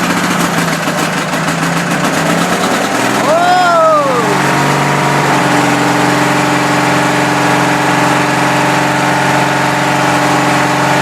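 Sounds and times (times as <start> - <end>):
garden tractor engine running: 0.0 - 11.0.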